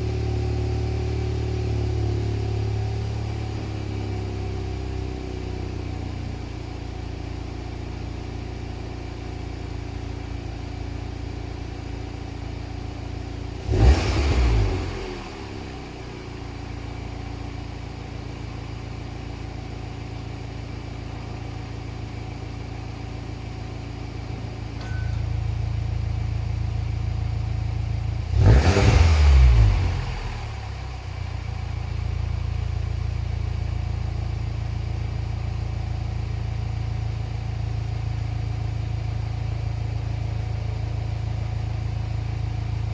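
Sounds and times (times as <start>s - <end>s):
car exhaust idling and revving: 0.0s - 42.9s.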